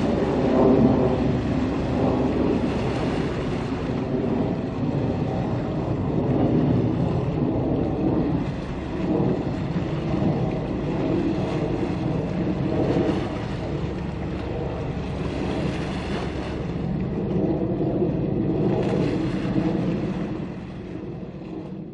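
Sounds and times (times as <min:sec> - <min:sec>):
steady low rumble: 0:00.0 - 0:21.9
wind buffeting microphone: 0:00.0 - 0:21.9.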